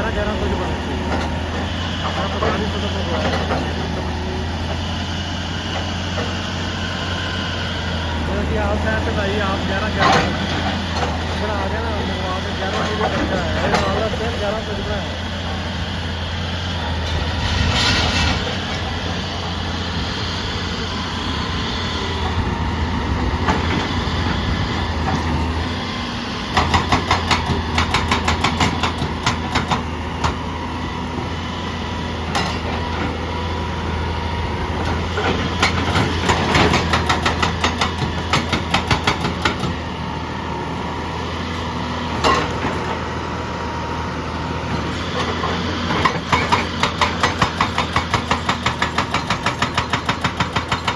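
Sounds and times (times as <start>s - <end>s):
heavy diesel machinery humming: 0.0s - 50.9s.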